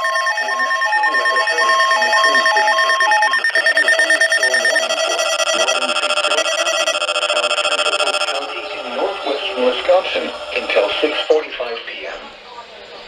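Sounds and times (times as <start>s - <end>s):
steady alert tones: 0.0s - 11.3s
two-pitch warbling alarm: 0.0s - 11.4s
multi-tone radio alert: 0.0s - 12.2s
muffled broadcast voice: 0.0s - 13.0s.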